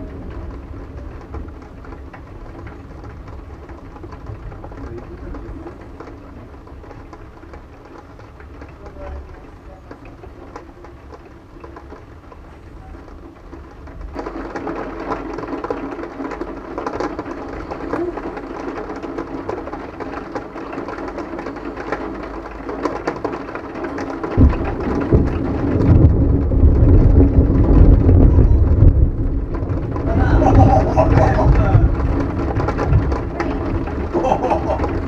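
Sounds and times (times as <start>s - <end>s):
low rumble of thunder: 0.0s - 35.0s
rain falling: 0.0s - 35.0s.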